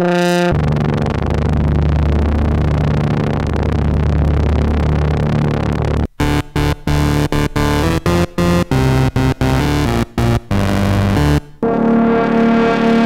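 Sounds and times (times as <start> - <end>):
choppy stuttering synth notes: 0.0 - 13.0
low synthesizer drone: 0.0 - 13.0.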